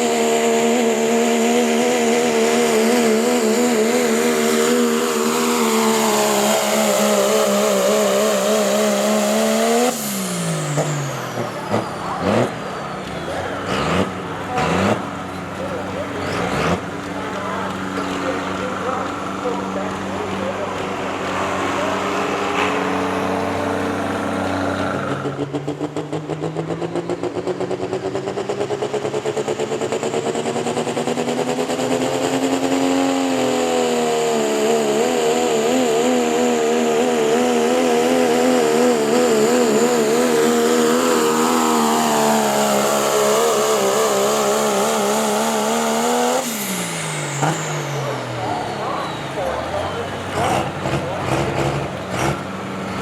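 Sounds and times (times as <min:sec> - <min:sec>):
engine at full throttle: 0:00.0 - 0:53.0.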